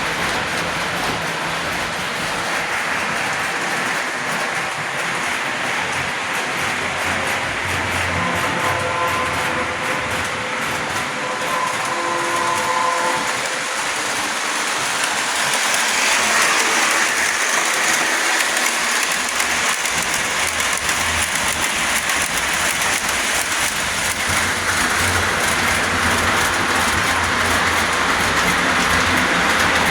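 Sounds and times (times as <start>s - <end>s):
model train running on track: 0.0s - 29.9s.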